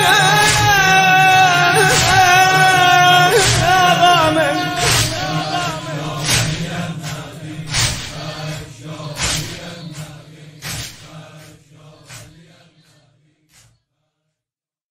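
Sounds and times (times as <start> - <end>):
faint chanting voices: 0.0 - 13.8
rhythmic slaps: 0.0 - 13.8.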